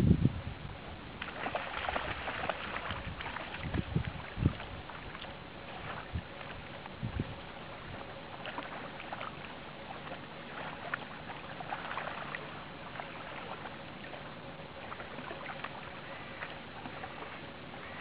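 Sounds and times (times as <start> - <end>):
small waves lapping: 0.8 - 18.0
light water splashes: 1.1 - 18.0.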